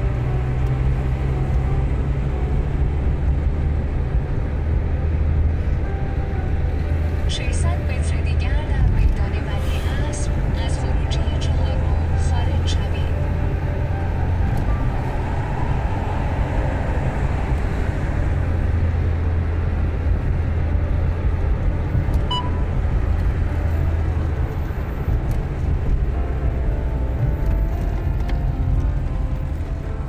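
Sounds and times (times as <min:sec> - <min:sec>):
car road rumble: 0:00.0 - 0:30.0.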